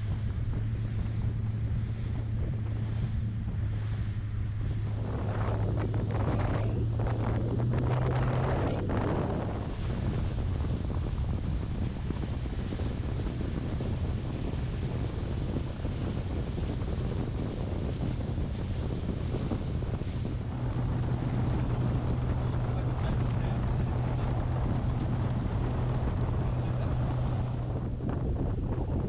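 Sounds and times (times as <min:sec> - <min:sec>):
small boat motor running: 0:00.0 - 0:29.0
water noise: 0:00.0 - 0:29.0
wind buffeting microphone: 0:00.0 - 0:29.0.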